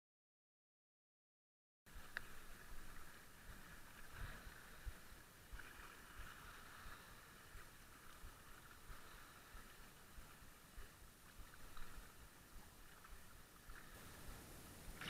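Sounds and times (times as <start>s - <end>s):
small waves lapping: 1.9s - 15.0s.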